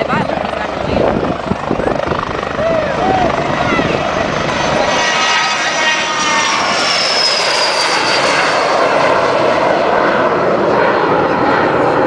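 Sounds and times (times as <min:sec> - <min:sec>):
jet flying past overhead: 0:00.0 - 0:12.0.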